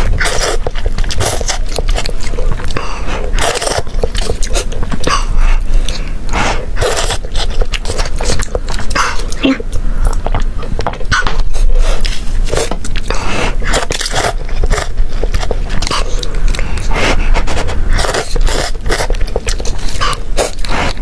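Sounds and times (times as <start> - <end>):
slurping and chewing noodles: 0.0 - 21.0.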